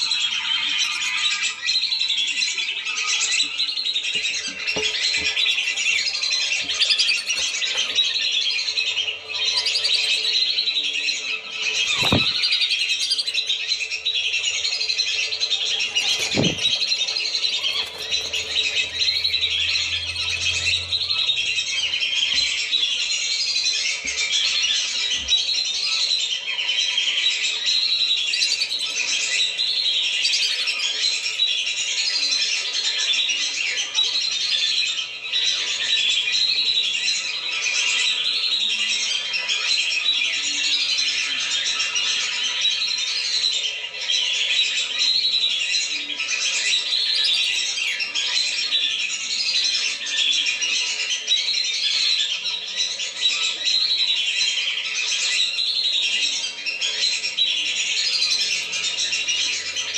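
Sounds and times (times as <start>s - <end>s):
whistling ducks chattering: 0.0s - 59.9s.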